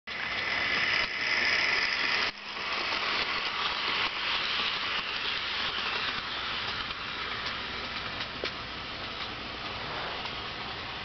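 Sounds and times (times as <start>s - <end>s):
model train rolling on track: 0.1s - 11.0s.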